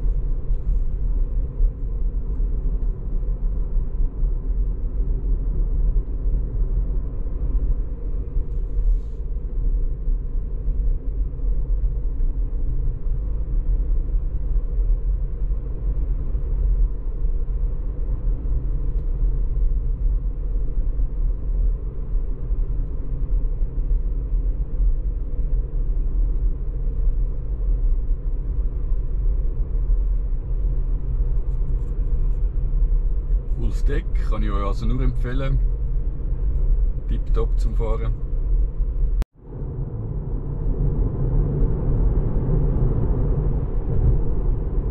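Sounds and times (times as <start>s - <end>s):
tyre and road noise in car cabin: 0.0s - 44.9s.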